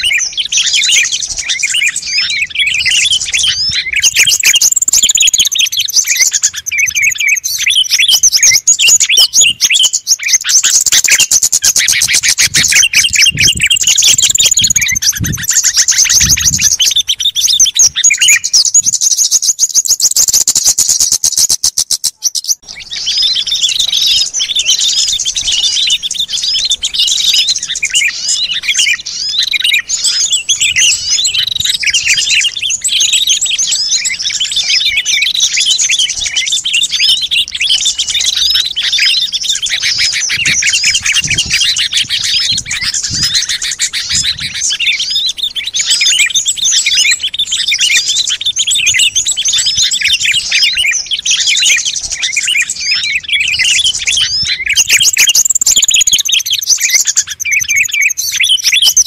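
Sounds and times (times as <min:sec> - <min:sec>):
rapid ticking bird call: 0:00.0 - 0:59.0
songbirds chirping and twittering: 0:00.0 - 0:59.0.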